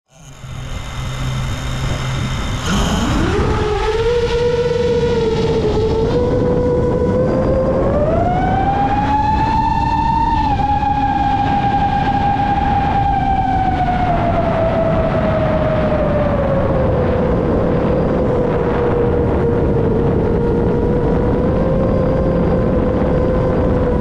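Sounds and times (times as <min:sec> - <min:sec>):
quadcopter motors whining: 0:00.1 - 0:24.0.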